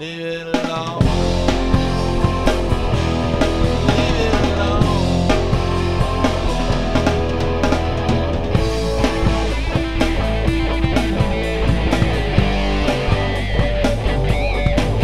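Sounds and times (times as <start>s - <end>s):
rock band playing: 0.5s - 15.0s.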